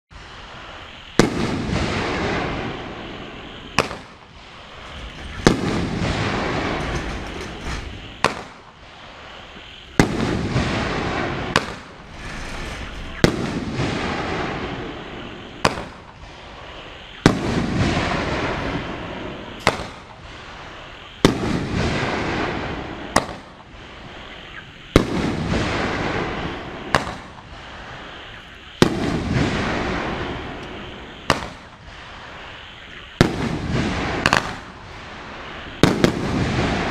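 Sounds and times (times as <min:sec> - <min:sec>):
firework bangs: 0:00.1 - 0:36.9
firework crackling and hissing: 0:00.1 - 0:36.9.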